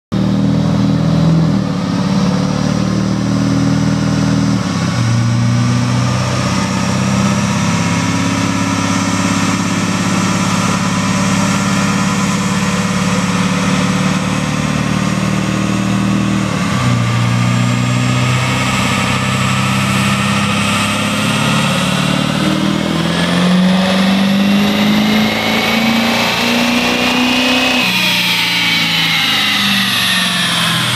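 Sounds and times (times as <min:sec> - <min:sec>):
diesel engine under full load: 0:00.1 - 0:30.9
high whine: 0:00.2 - 0:30.9.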